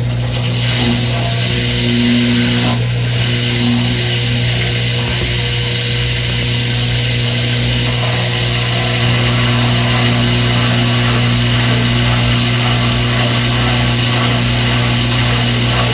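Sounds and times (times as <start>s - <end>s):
electric motor humming: 0.0s - 15.9s.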